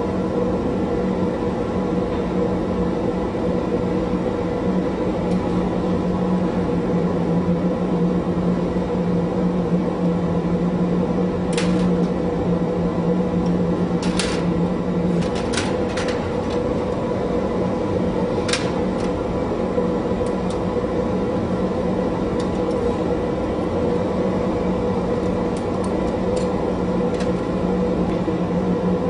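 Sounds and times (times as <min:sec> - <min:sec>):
mechanical hum with low drone: 0:00.0 - 0:29.0.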